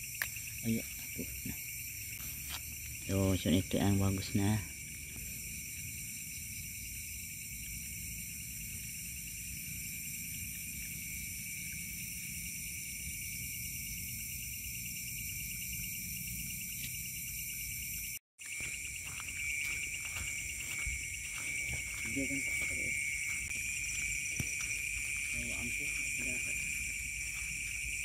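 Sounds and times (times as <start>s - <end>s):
crickets and insects trilling: 0.0s - 28.0s.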